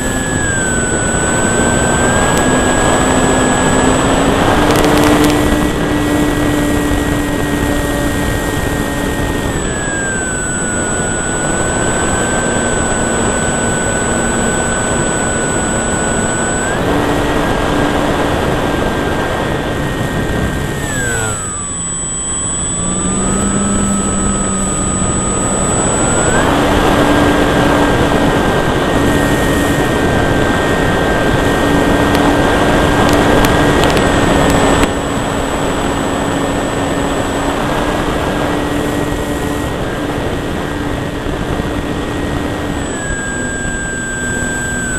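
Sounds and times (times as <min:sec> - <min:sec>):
electric motor propeller whine: 0:00.0 - 0:44.9
wind rush: 0:00.0 - 0:44.9.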